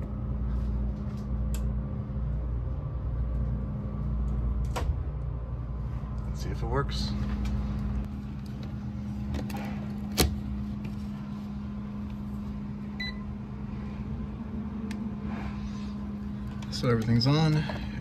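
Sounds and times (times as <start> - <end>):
refrigeration equipment humming: 0.0 - 18.0.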